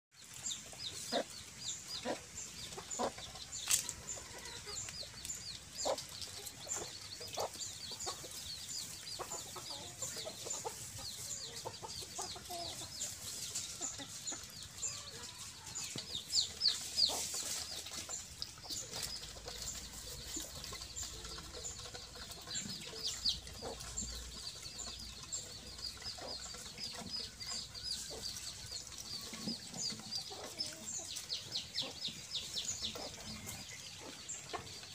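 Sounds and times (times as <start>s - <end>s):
chicks peeping: 0.2s - 34.9s
hen clucks: 0.4s - 34.9s.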